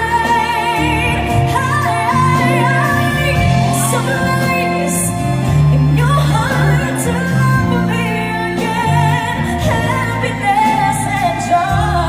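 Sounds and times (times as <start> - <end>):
live band with violins and drums: 0.0 - 12.0
woman singing with vibrato: 0.0 - 12.0.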